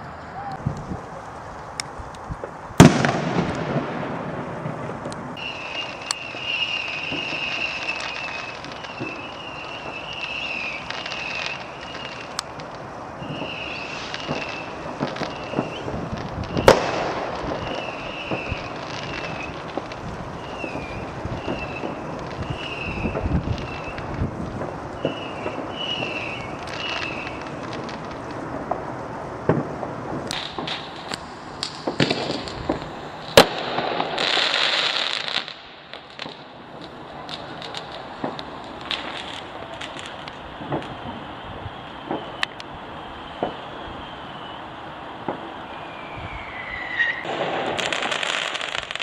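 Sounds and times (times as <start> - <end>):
crackling hiss: 0.0 - 49.0
fireworks popping and banging: 0.5 - 49.0.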